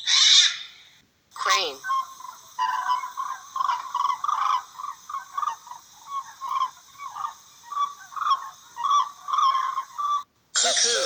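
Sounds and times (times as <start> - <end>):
crane calling: 1.4 - 11.0.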